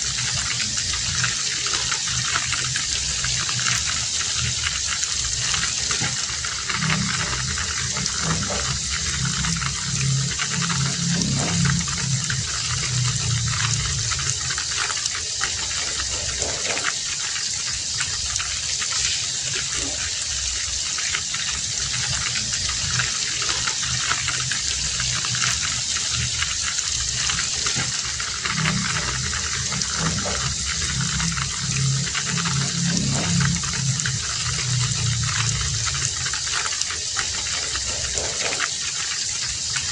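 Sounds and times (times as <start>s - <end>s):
low hum: 0.0s - 16.9s, 21.6s - 38.6s
heavy rain hiss: 0.0s - 39.9s.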